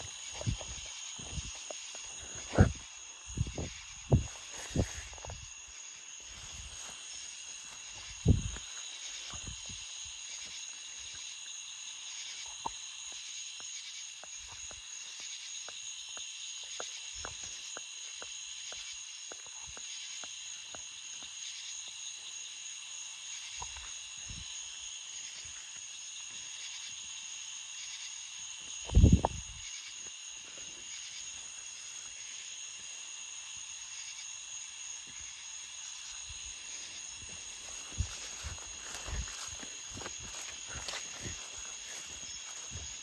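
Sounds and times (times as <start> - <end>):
high-pitched hiss: 0.0 - 43.0.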